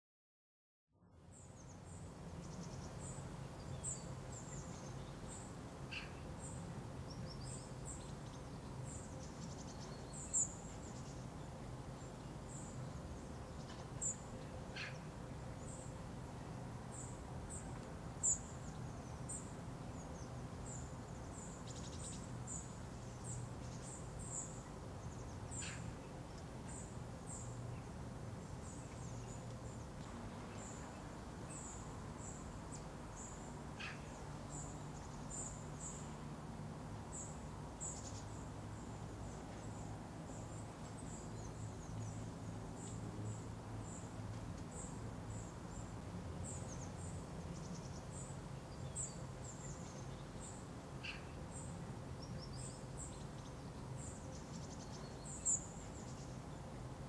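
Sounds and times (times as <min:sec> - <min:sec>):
low background hum: 0:01.0 - 0:57.0
small birds chirping: 0:01.3 - 0:15.9, 0:16.9 - 0:36.2, 0:37.0 - 0:56.7.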